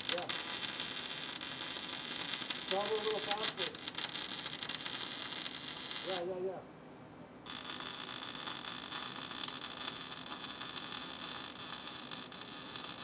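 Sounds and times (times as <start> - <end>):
welding arc crackling hiss: 0.0 - 6.4, 7.5 - 13.0.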